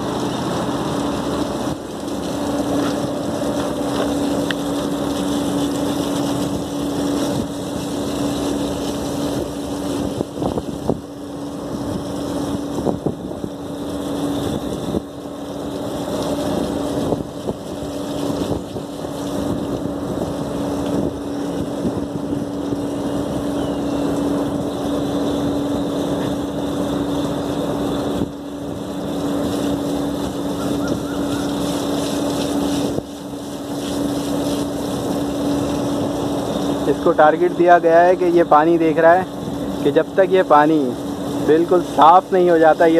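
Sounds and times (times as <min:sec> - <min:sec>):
steady machine hum: 0:00.0 - 0:42.9
water jet spraying coils: 0:00.0 - 0:42.9.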